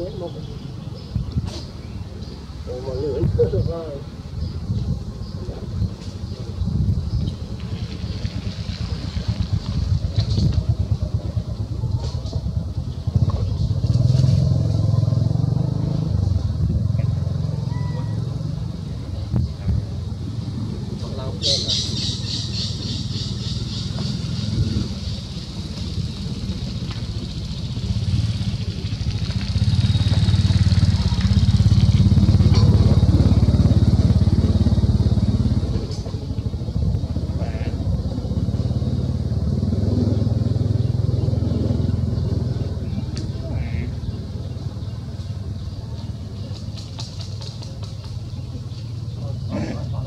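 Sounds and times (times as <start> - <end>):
vehicle engine droning: 0.0 - 50.0.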